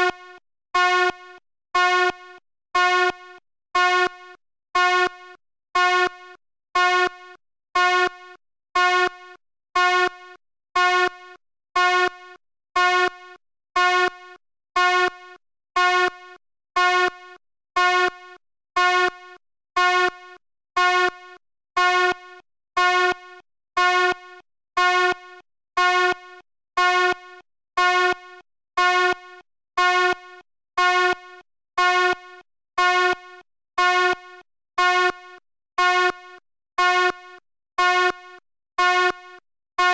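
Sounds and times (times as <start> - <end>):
fire alarm horn buzzing: 0.0 - 39.9.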